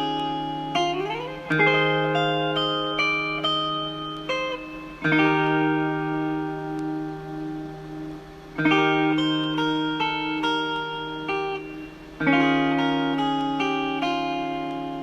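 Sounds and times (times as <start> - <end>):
plucked guitar chords: 0.0 - 15.0.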